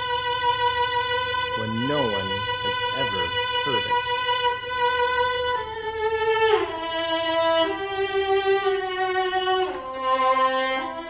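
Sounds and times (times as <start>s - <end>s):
bowed string instrument melody: 0.0s - 11.0s.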